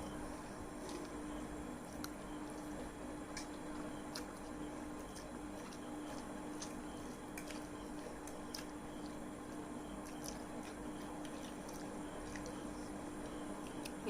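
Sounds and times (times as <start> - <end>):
chewing and slurping noodles: 0.0 - 14.0
steady low hum: 0.0 - 14.0.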